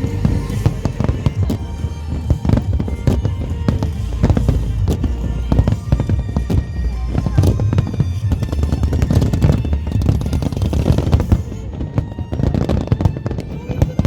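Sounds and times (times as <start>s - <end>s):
fireworks bursting: 0.0s - 14.0s
music playing: 0.0s - 14.0s.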